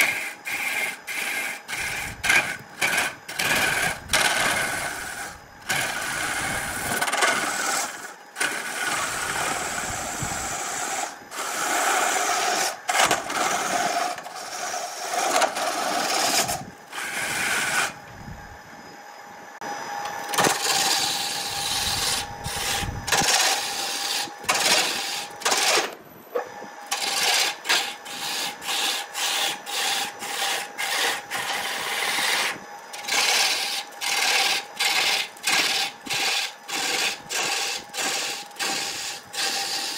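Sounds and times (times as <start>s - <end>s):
turning tool scraping wood: 0.0s - 18.0s, 20.3s - 39.9s
lathe running: 0.0s - 19.0s, 19.6s - 39.9s.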